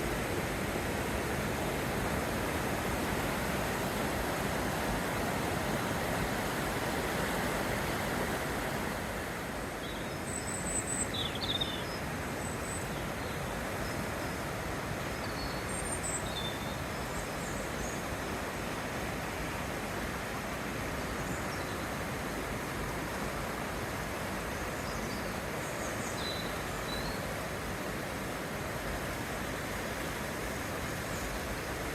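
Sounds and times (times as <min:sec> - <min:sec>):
river roaring: 0:00.0 - 0:31.9.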